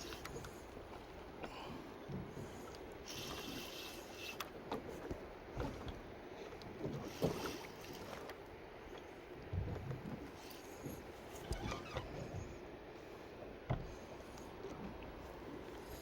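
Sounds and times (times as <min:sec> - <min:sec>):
water slapping against hull: 0:00.0 - 0:16.0.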